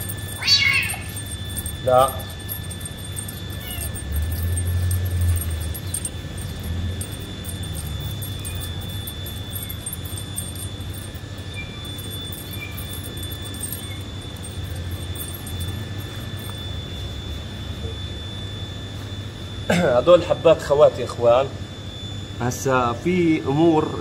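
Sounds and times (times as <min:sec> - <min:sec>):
high thin whine: 0:00.0 - 0:21.6.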